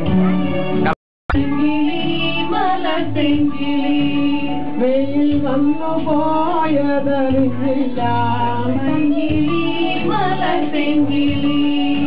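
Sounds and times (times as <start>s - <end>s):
instrumental accompaniment with beat: 0.0s - 12.0s
women singing: 1.3s - 12.0s.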